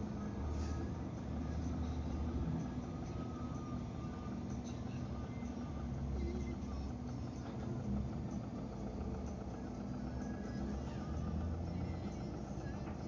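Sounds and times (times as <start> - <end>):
low engine rumble inside car: 0.0 - 13.0.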